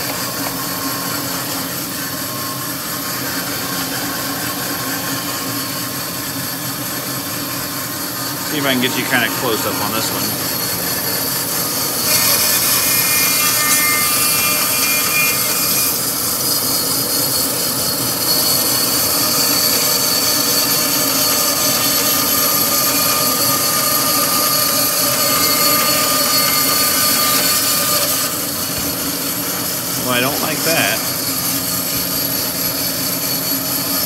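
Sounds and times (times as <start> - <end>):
bandsaw cutting log: 0.0 - 34.0.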